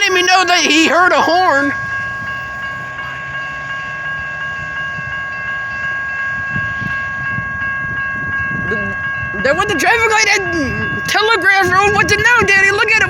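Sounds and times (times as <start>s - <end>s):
crossing bell ringing tones: 0.0s - 13.0s
train rumble: 0.0s - 13.0s.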